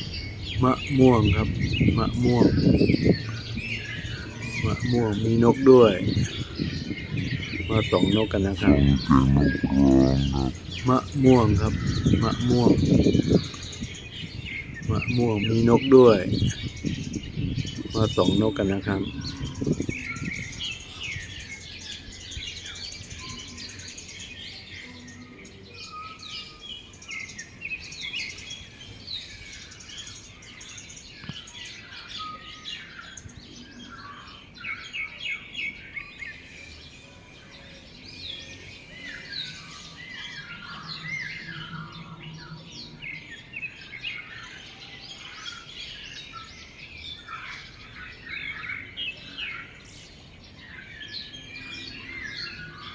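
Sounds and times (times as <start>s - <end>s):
chorus of small birds chirping: 0.0s - 52.9s.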